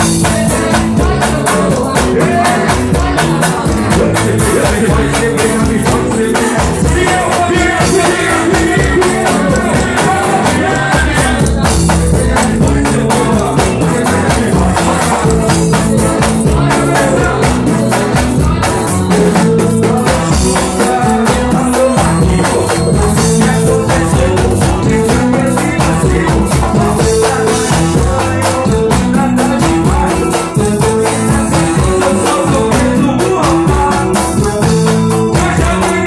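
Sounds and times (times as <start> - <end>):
driving drum and percussion groove: 0.0 - 36.0
person singing: 0.0 - 36.0.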